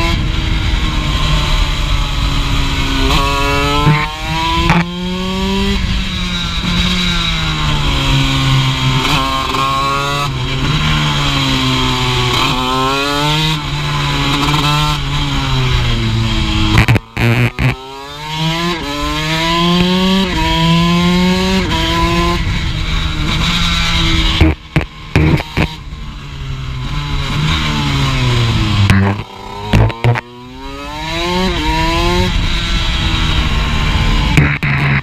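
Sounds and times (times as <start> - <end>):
two-stroke race bike engine revving: 1.0 - 6.0, 6.6 - 25.8, 26.9 - 35.0.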